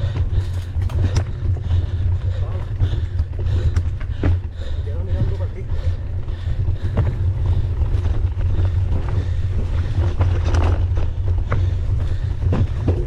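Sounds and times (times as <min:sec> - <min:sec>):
bike knocks and rattles: 0:00.0 - 0:13.0
wind buffeting microphone: 0:00.0 - 0:13.0.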